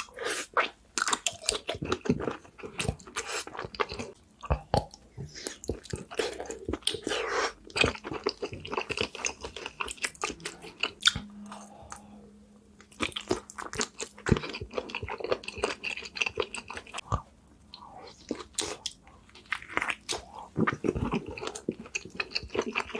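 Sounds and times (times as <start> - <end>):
close-up chewing and crunching: 0.0 - 12.1, 12.8 - 22.9.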